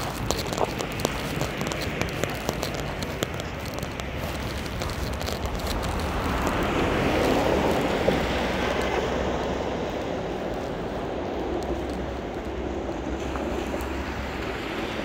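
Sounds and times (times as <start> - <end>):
tyres hissing on wet street: 0.0 - 15.0.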